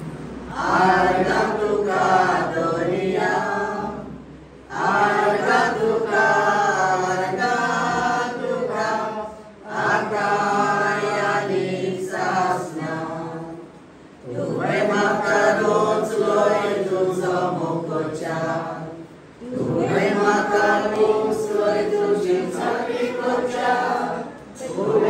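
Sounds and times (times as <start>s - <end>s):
group singing in unison: 0.0s - 25.0s.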